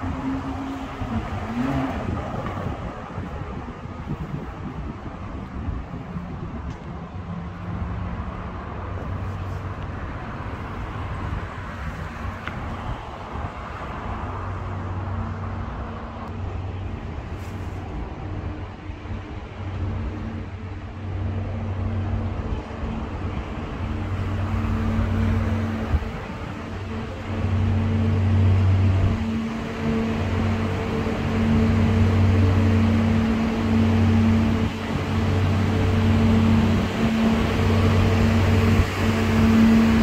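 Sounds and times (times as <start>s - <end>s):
engine humming: 0.0s - 40.0s
outdoor background noise: 0.0s - 40.0s.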